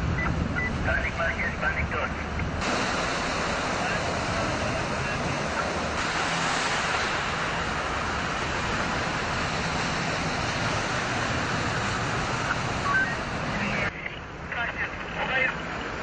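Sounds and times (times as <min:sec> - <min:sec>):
low engine hum: 0:00.0 - 0:16.0
tyres rushing through floodwater: 0:00.0 - 0:16.0.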